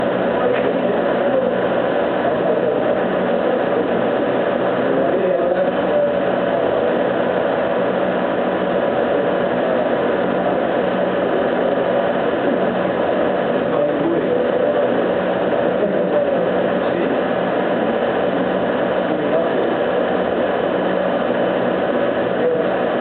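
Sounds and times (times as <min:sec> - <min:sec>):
laser cutter whirring: 0:00.0 - 0:23.0.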